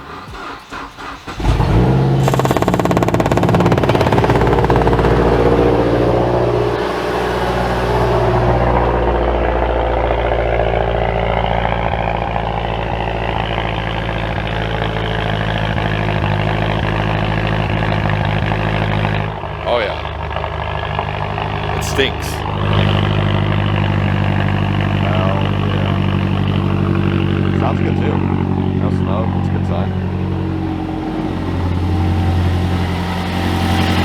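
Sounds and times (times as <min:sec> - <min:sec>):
car engine starting and idling: 0:00.0 - 0:34.0.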